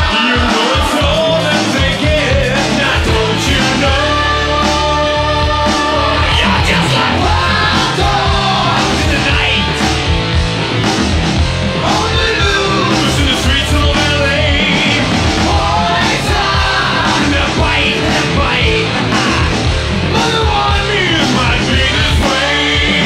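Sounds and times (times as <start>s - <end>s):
hard rock song: 0.0s - 23.0s.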